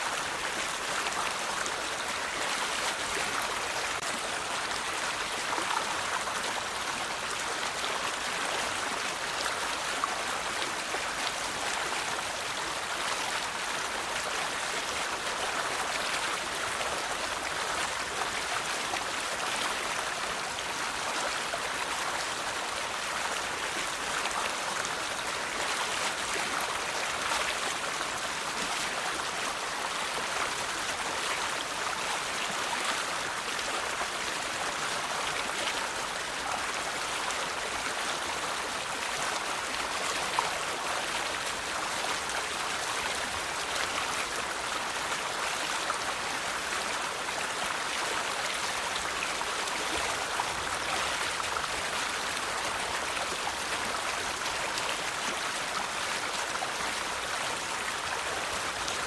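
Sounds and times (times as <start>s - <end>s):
river water flowing over stones: 0.0s - 59.0s.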